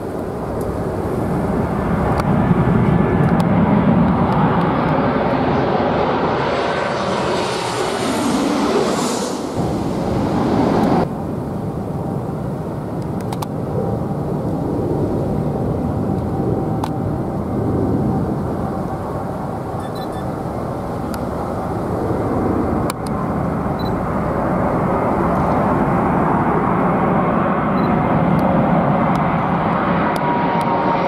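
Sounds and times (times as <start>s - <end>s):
jet engine rumble: 0.0s - 31.0s.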